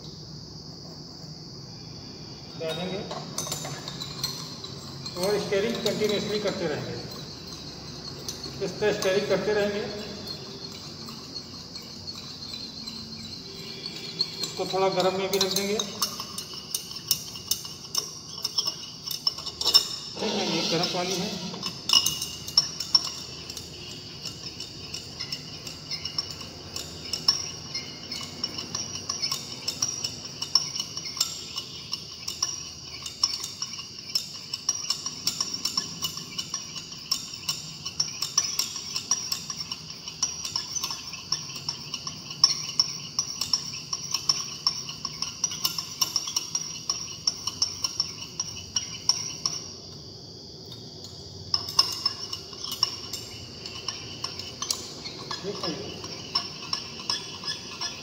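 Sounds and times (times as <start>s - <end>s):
glass rod clinking in beaker: 2.4s - 50.0s, 50.7s - 58.0s.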